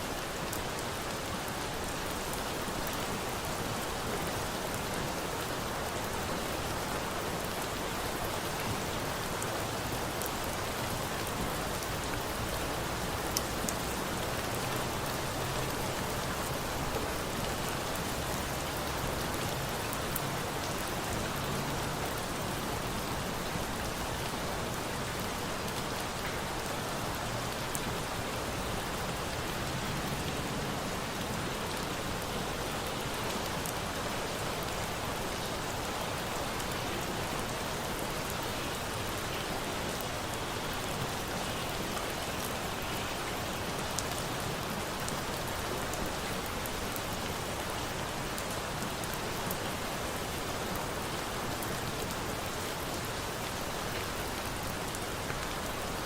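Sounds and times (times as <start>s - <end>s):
steady rain falling: 0.0s - 56.0s
faint campfire crackles: 0.1s - 56.0s.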